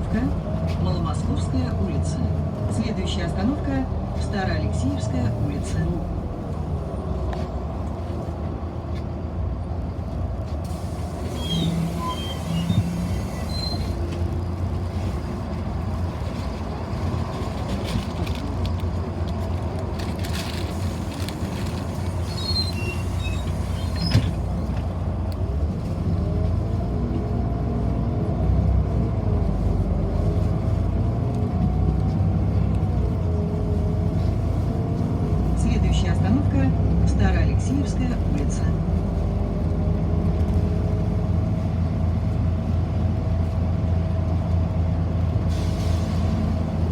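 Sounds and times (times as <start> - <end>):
bus engine drone: 0.0 - 46.9
bus whine: 0.0 - 46.9.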